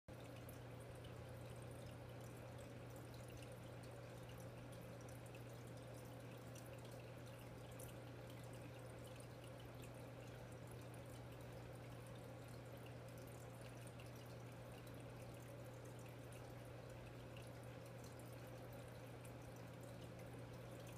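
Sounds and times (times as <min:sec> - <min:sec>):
aquarium pump humming: 0:00.1 - 0:20.9
water dripping and trickling: 0:00.1 - 0:20.9.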